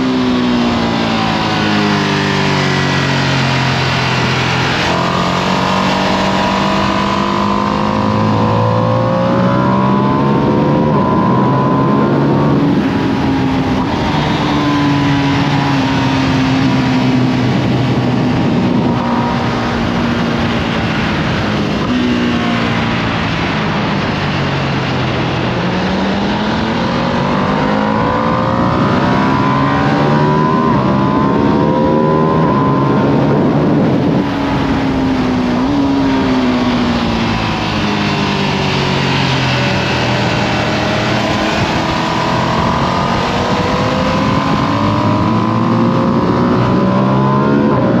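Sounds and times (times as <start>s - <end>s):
motorcycle accelerating hard: 0.0s - 48.0s
steady rushing noise: 0.0s - 48.0s.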